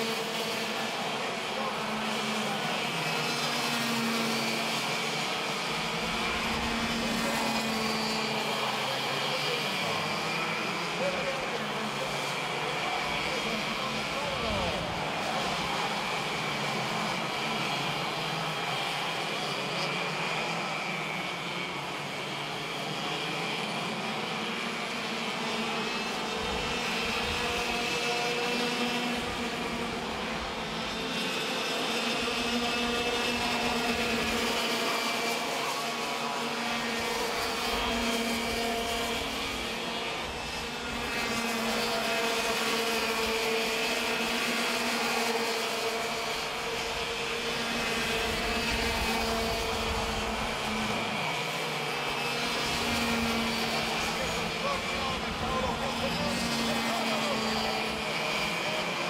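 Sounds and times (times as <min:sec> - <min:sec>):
kart engines revving: 0:00.0 - 0:59.0.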